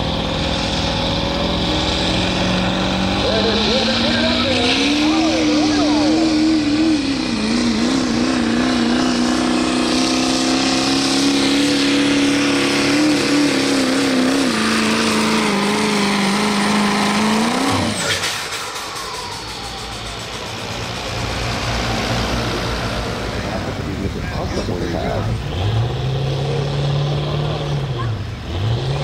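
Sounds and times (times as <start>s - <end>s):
diesel truck engine revving: 0.0s - 29.0s.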